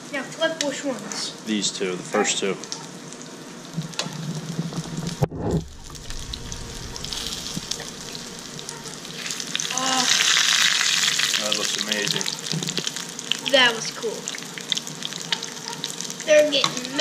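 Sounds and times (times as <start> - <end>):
fish frying in oil: 2.5 - 17.0.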